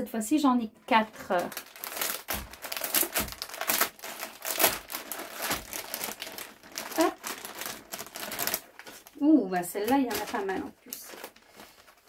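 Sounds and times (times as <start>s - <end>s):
plastic bag crinkling: 0.9s - 12.0s.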